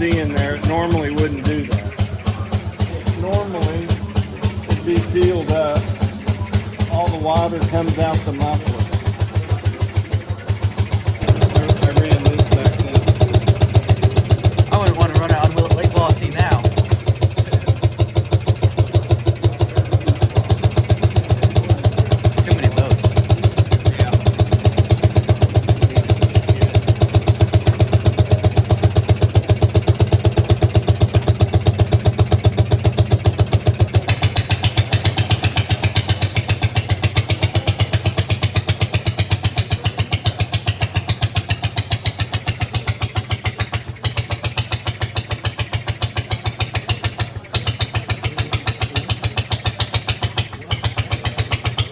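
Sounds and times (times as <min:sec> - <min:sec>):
boat motor exhaust pops: 0:00.0 - 0:51.9.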